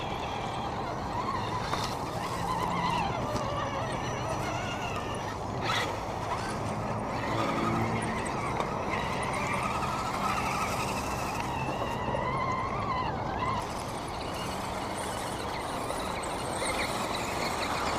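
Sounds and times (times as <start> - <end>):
electric motors whining: 0.0 - 17.9.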